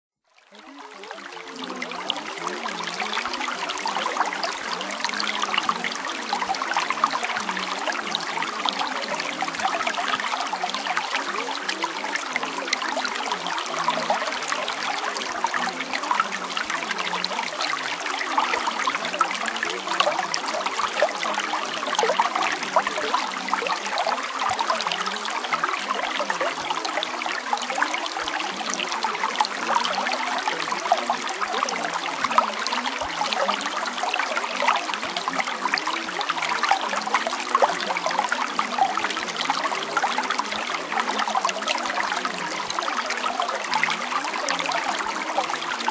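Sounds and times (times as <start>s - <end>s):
water trickling: 0.4s - 45.9s.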